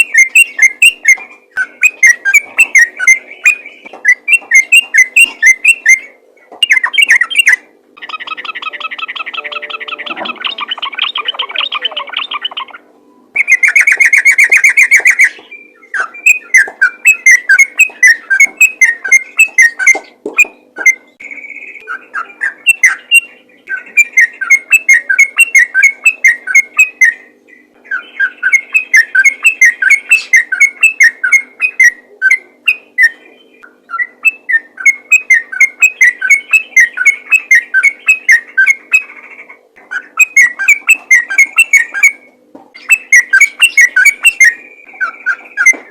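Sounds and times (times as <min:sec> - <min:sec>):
bird singing chattering phrases: 0:00.0 - 0:45.9.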